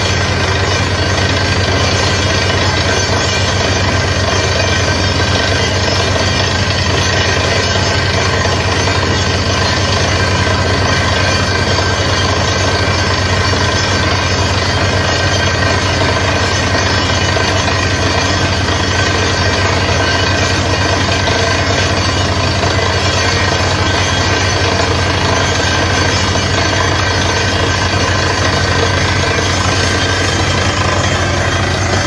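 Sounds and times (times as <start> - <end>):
drilling rig engine and compressor: 0.0 - 32.0.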